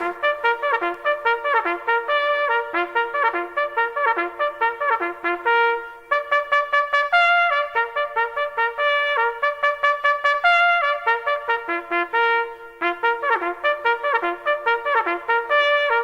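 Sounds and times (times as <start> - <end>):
brass music with trumpets: 0.0 - 16.0.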